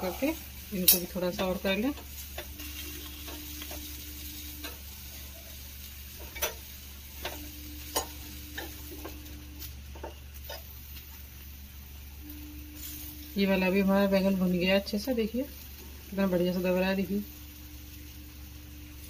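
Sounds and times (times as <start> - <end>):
faint steady hum: 0.0 - 19.0
gas burner hissing: 0.0 - 19.0
sharp crackles: 0.0 - 19.0.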